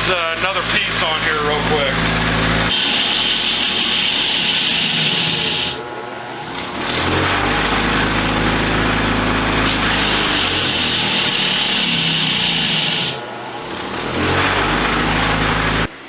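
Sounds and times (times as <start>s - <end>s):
wire wheel scrubbing metal: 0.0s - 15.9s
motor humming: 0.0s - 16.0s.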